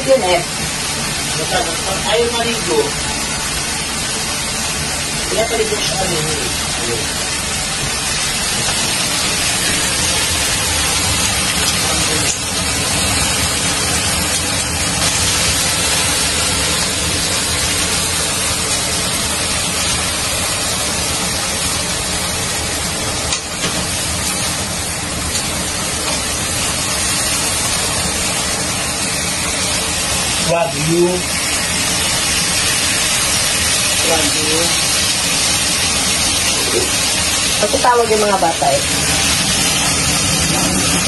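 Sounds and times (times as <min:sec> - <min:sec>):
steaks sizzling in a frying pan: 0:00.0 - 0:41.0.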